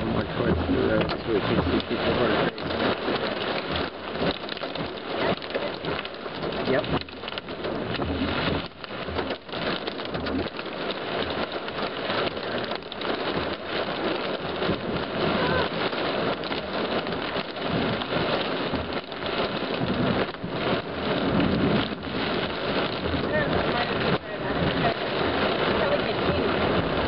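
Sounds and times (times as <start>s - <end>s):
rain and hail on car roof: 0.0s - 27.0s.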